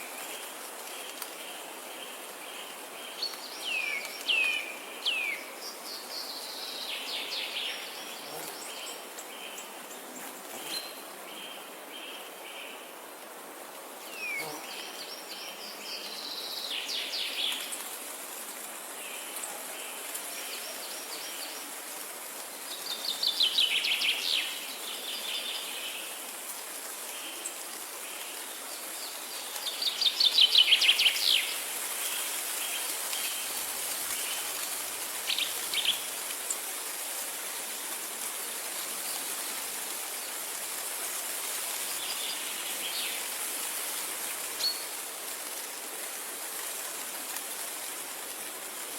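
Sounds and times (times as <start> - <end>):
steady high hiss: 0.0 - 48.9.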